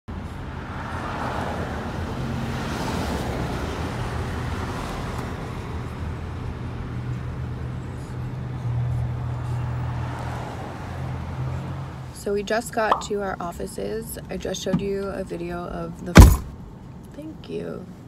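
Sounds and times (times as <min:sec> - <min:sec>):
road and traffic noise: 0:00.1 - 0:18.0.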